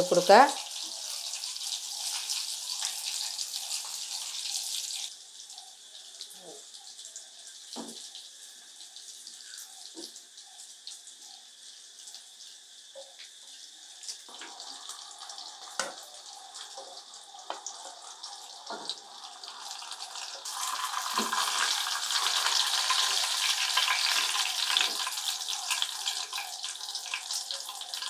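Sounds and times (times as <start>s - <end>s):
fish sizzling in oil: 0.0s - 28.0s.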